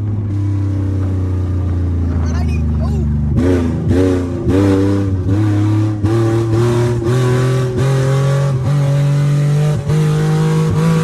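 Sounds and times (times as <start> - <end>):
car engine accelerating without exhaust: 0.0 - 11.0.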